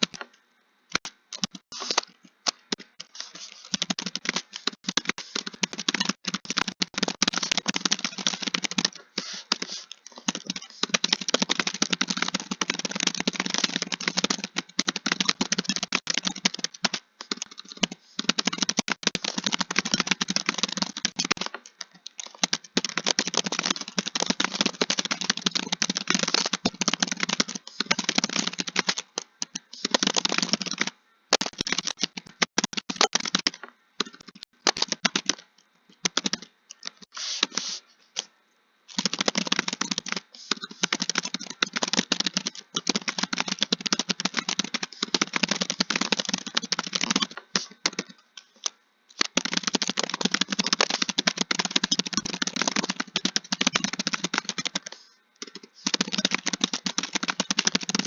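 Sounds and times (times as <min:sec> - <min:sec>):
fast keyboard typing: 0:00.0 - 0:00.3, 0:00.9 - 0:37.8, 0:38.9 - 0:58.0.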